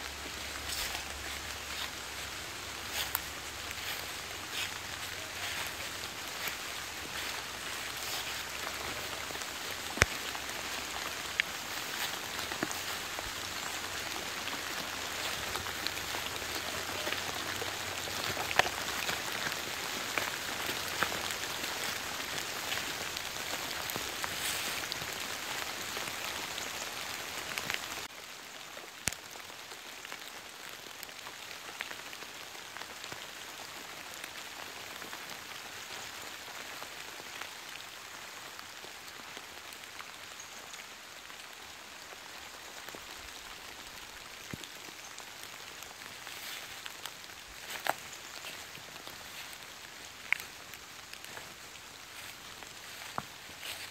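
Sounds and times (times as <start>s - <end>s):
light rain on wet leaves: 0.0s - 53.9s.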